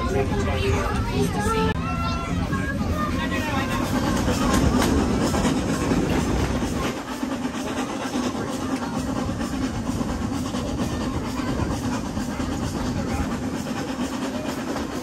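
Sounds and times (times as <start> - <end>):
train carriage rumbling on track: 0.0 - 15.0.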